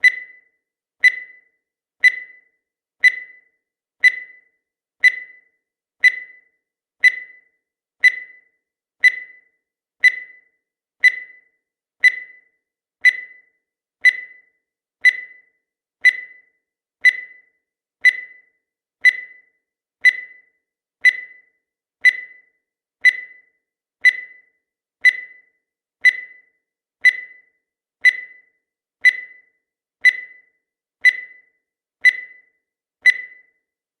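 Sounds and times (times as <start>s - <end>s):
high-pitched electronic timer blips: 0.0s - 33.7s.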